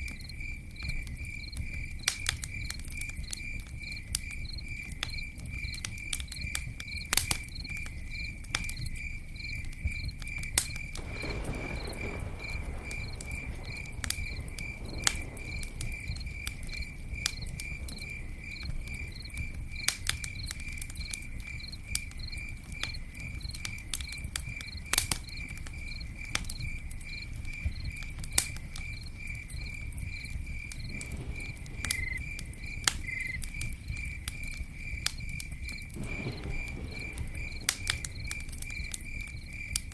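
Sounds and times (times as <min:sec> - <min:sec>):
campfire crackling and popping: 0:00.0 - 0:39.9
cricket chirping: 0:00.0 - 0:39.9.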